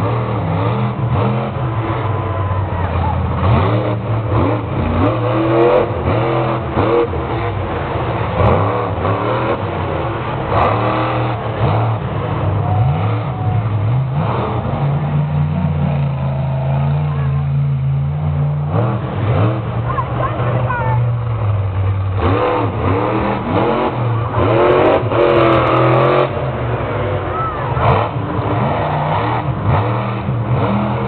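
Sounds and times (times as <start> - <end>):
monster truck engine revving: 0.0 - 31.0.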